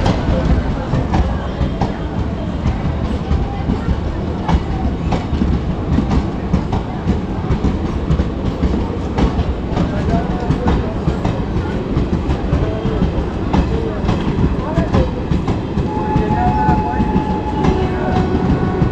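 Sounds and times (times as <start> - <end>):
train rumbling past: 0.0 - 18.9.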